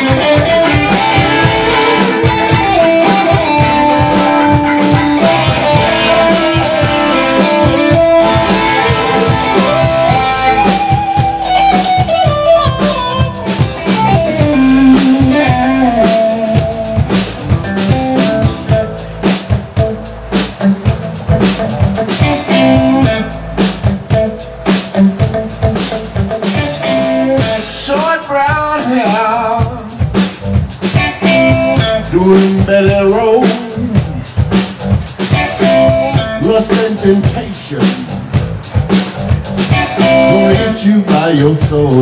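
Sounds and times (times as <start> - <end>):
bending lead guitar notes: 0.0 - 28.0, 29.4 - 42.0
drums: 0.0 - 42.0
live blues band playing: 0.0 - 42.0.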